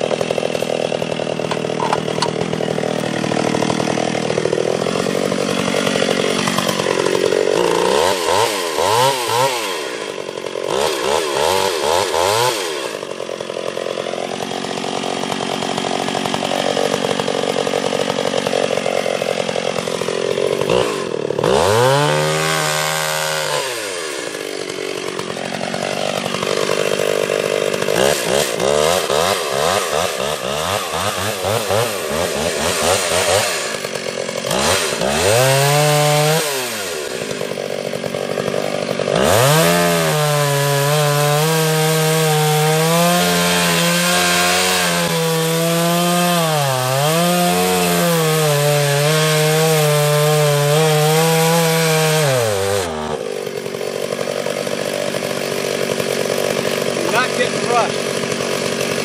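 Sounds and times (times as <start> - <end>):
chainsaw sawing into tree: 0.0 - 59.0.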